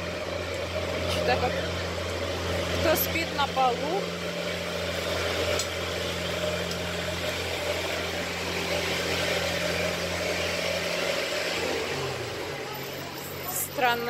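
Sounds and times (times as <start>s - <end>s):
city street noise: 0.0s - 14.0s
low mechanical drone: 0.0s - 14.0s.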